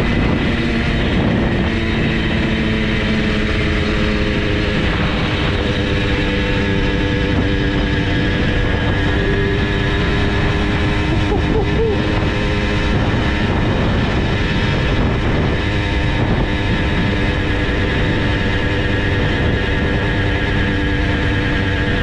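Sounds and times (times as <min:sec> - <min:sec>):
two-stroke moped engine revving high: 0:00.0 - 0:22.0.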